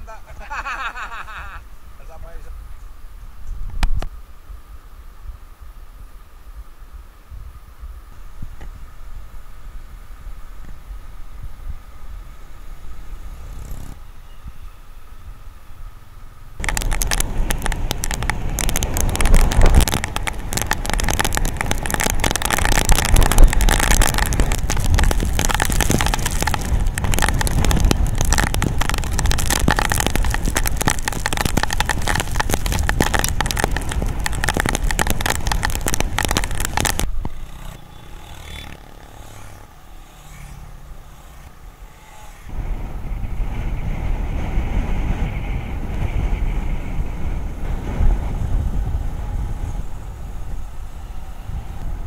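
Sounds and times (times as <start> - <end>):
vehicle rushing along road: 8.8 - 52.0.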